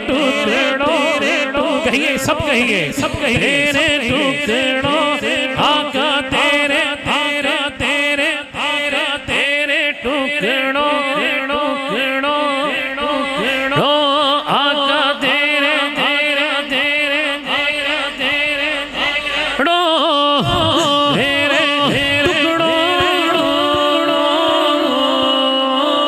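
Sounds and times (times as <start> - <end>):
man singing devotional song: 0.0 - 26.0
steady held drone: 0.0 - 26.0.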